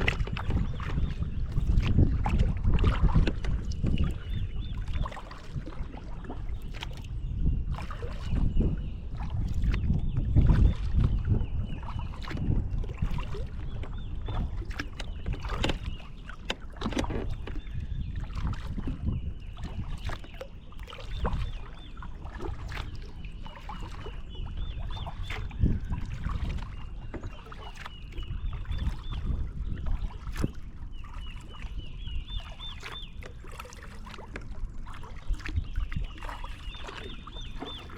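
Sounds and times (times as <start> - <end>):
paddle splashing in water: 0.0 - 37.9.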